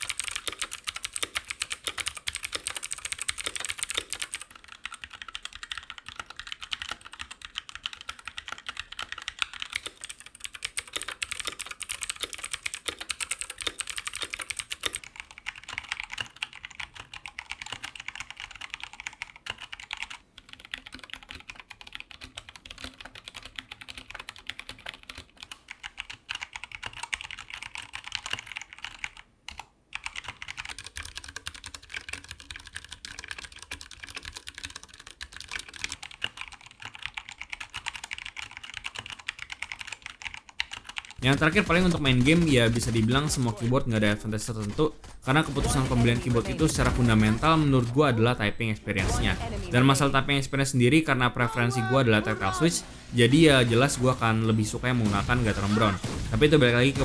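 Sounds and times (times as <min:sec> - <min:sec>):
fast typing on mechanical keyboard: 0:00.0 - 0:48.1.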